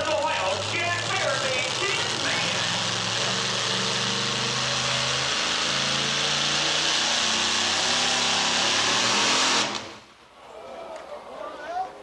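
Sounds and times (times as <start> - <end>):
truck engine at high revs: 0.0 - 10.1.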